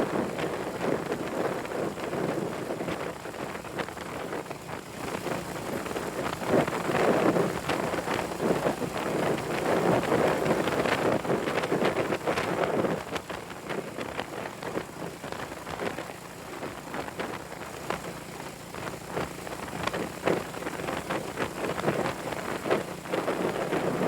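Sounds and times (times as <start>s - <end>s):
faint motorcycle engine hum: 0.0s - 24.0s
wind buffeting microphone: 0.0s - 24.0s.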